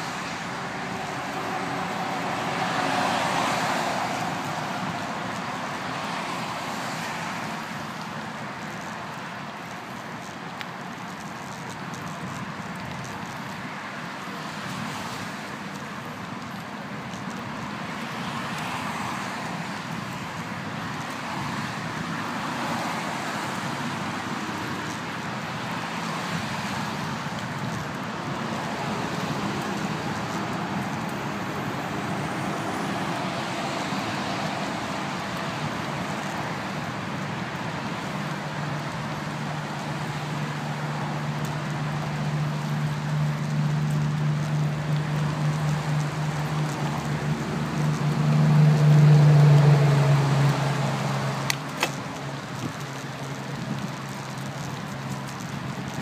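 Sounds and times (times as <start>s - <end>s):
bicycle riding rush: 0.0s - 56.0s
road traffic: 0.0s - 56.0s.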